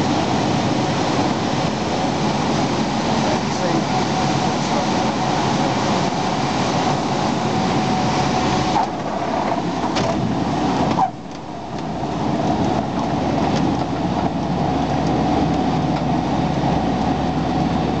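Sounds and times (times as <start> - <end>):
aircraft engine in cockpit: 0.0 - 18.0.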